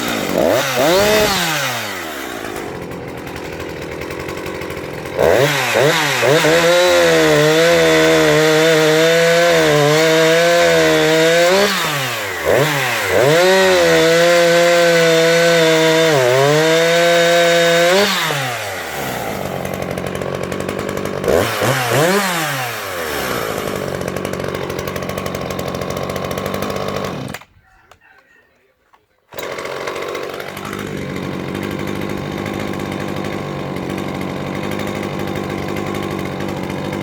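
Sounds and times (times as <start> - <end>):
chainsaw revving and idling: 0.0 - 27.6, 29.3 - 37.0.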